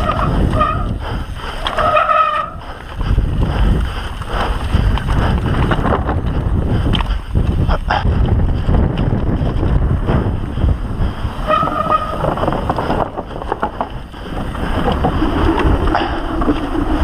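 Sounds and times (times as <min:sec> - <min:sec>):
bike tyres rolling on wooden boards: 0:00.0 - 0:17.0
wind buffeting microphone: 0:00.0 - 0:17.0.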